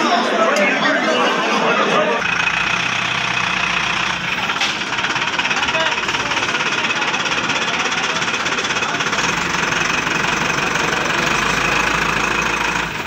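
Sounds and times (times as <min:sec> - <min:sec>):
machine running with rapid beat: 0:02.2 - 0:13.0.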